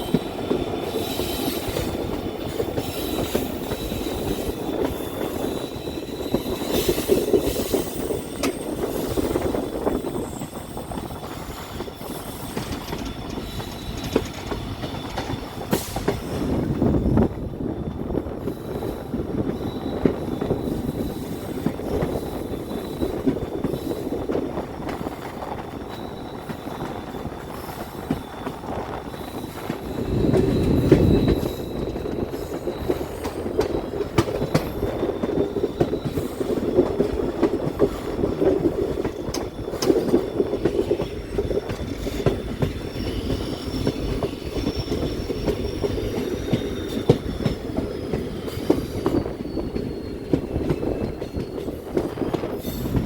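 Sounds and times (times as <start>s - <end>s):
high wheel squeal: 0.0s - 53.0s
train wheels rumbling and clicking: 0.0s - 53.0s.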